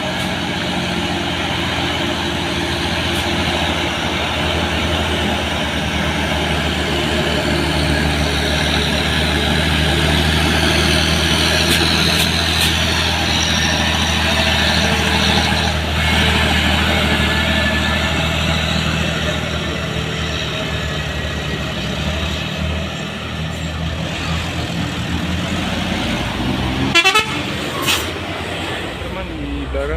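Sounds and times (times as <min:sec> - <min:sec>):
diesel truck engine running: 0:00.0 - 0:29.9.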